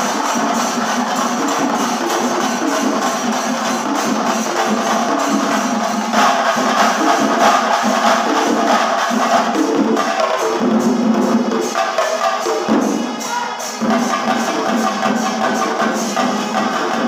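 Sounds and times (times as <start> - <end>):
drum ensemble beating: 0.0 - 17.0.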